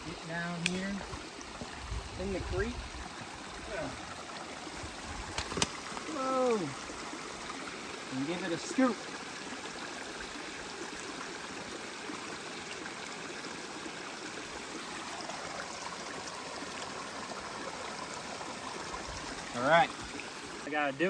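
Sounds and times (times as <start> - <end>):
creek water babbling: 0.0 - 21.0.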